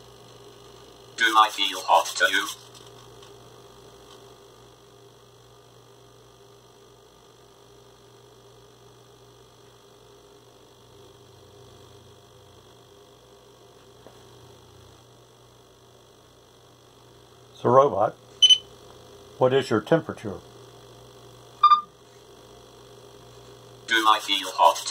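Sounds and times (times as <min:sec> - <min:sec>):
electrical mains hum: 0:00.0 - 0:24.9.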